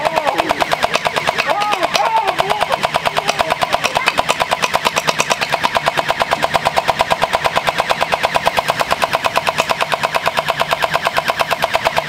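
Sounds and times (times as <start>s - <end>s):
gel blaster firing full auto: 0.0s - 12.0s.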